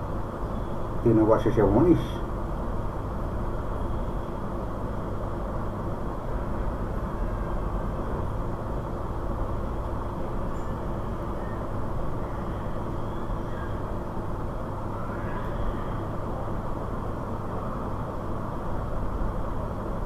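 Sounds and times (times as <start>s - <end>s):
low hum: 0.0s - 20.0s
noisy rumble: 0.0s - 20.0s.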